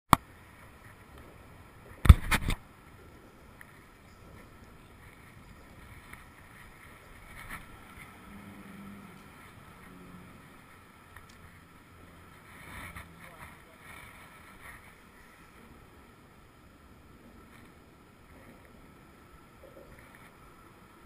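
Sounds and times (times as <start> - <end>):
faint outdoor background noise: 0.1 - 21.0.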